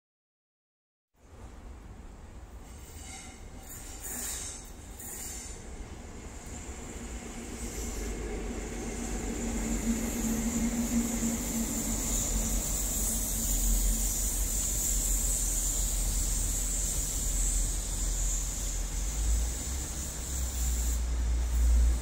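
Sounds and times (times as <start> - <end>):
diesel locomotive hum: 1.2 - 22.0
train wheels rumbling on rails: 2.4 - 22.0.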